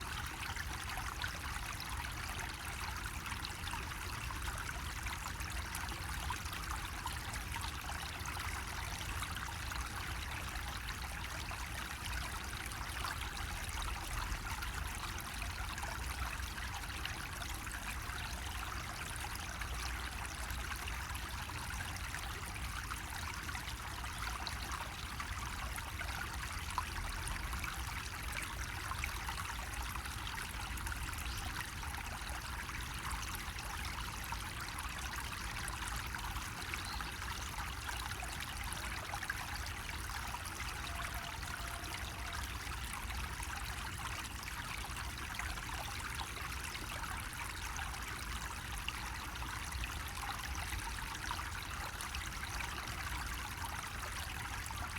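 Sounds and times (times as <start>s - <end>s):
water trickling from spout: 0.0s - 54.9s.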